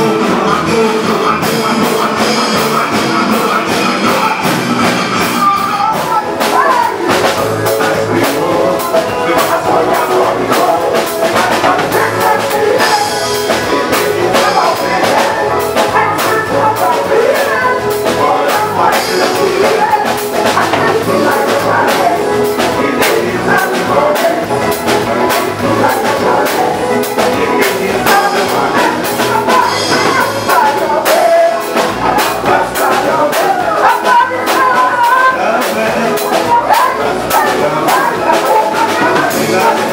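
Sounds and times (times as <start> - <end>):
drum kit beat: 0.0 - 39.9
live band playing: 0.0 - 39.9
person singing: 0.0 - 39.9.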